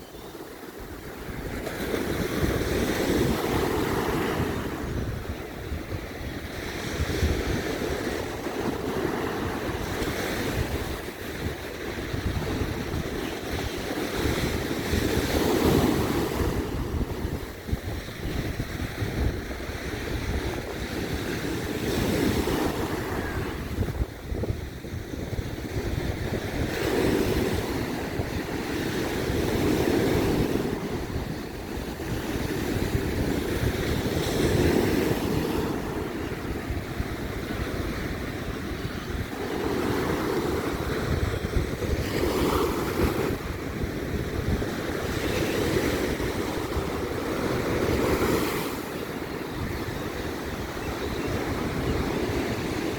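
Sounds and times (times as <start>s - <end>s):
surf breaking on a beach: 0.0s - 52.9s
wind rumbling on microphone: 0.0s - 52.9s.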